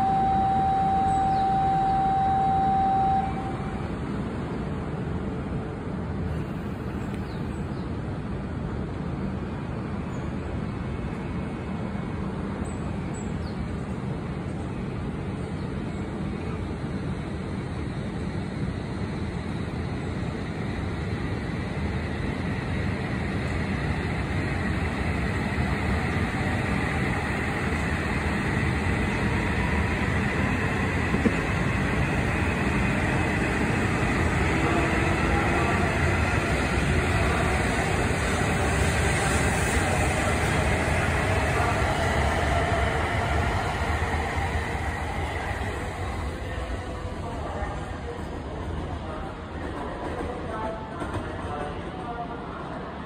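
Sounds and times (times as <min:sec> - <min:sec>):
train running noise: 0:00.0 - 0:53.0.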